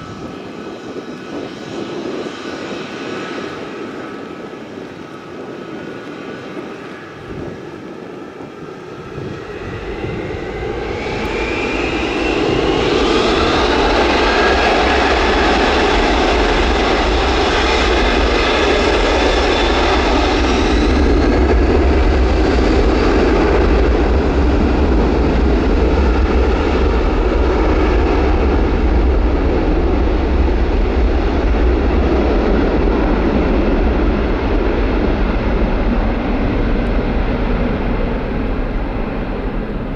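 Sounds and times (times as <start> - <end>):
jet airliner engines rumbling: 0.0 - 39.9.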